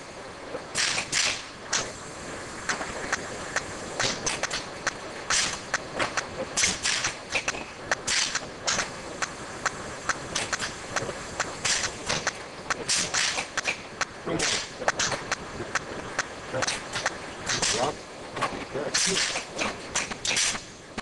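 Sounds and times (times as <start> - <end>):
filling machine hissing bursts: 0.0 - 21.0.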